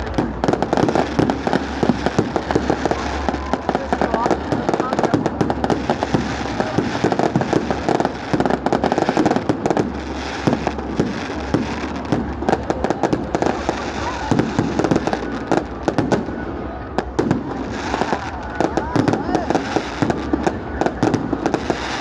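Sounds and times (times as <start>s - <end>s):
fireworks crackling pops: 0.0s - 22.0s.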